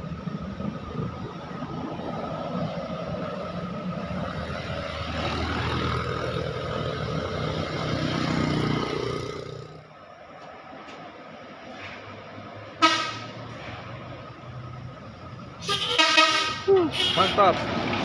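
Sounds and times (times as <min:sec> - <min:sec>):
heavy vehicle passing: 0:00.0 - 0:18.0.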